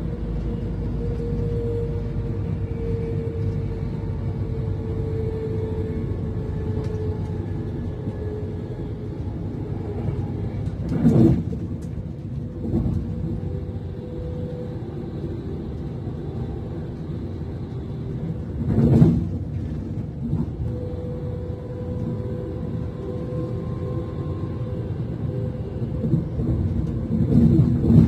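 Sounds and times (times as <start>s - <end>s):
train interior low rumble: 0.0s - 28.0s.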